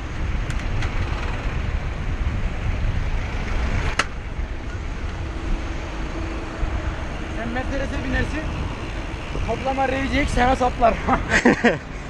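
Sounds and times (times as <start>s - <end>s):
road traffic: 0.0s - 12.0s
wind rumbling on microphone: 0.0s - 12.0s.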